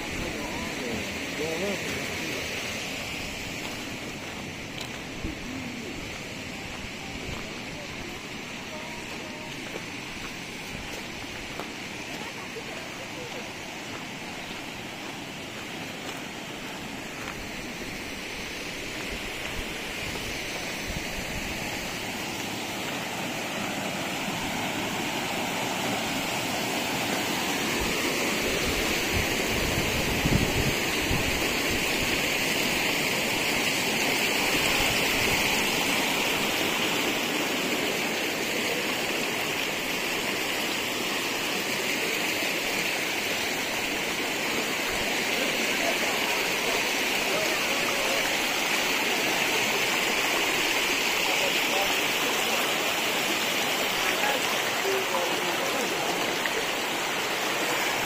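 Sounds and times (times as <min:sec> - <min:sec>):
stream rushing over stones: 0:00.0 - 0:58.0.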